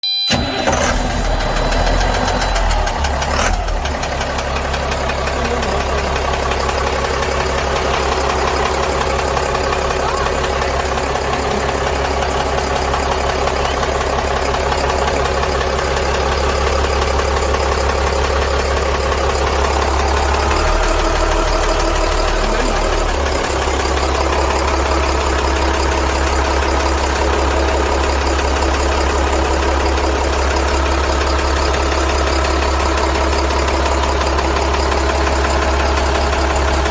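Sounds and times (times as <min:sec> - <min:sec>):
diesel engine idling: 0:00.3 - 0:36.9
engine tapping and knocking: 0:00.3 - 0:36.9.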